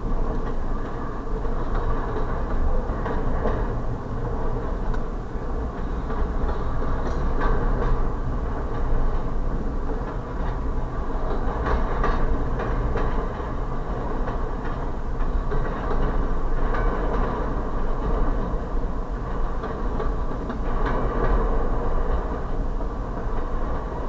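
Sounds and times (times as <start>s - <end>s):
train wheels rumbling on rail: 0.0s - 24.0s
wheels clunking over rail joints: 0.0s - 24.0s.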